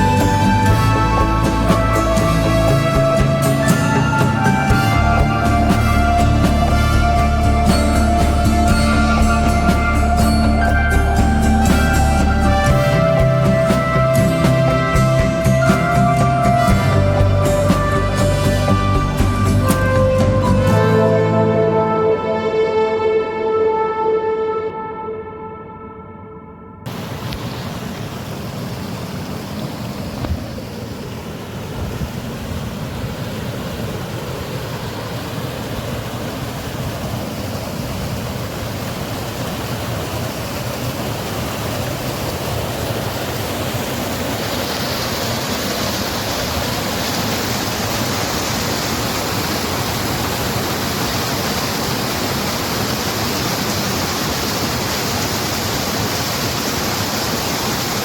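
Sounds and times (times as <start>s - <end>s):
water rushing: 0.0s - 26.2s, 26.9s - 58.0s.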